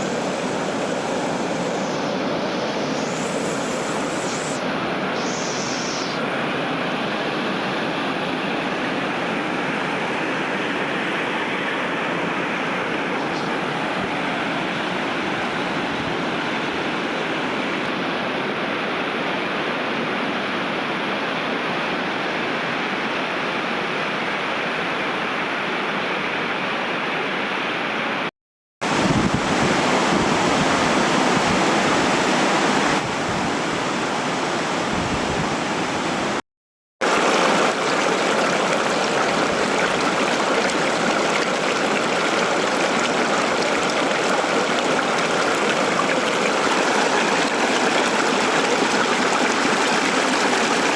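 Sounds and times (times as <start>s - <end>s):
stream water rushing: 0.0s - 28.2s, 28.8s - 36.4s, 37.0s - 50.9s.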